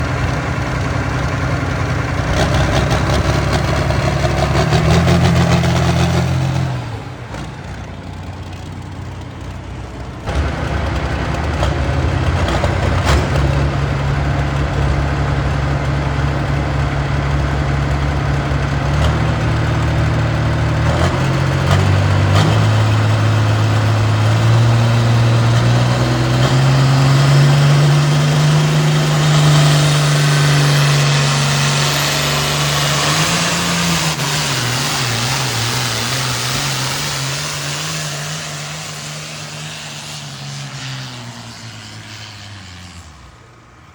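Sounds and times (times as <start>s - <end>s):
tractor engine under load: 0.0s - 43.9s.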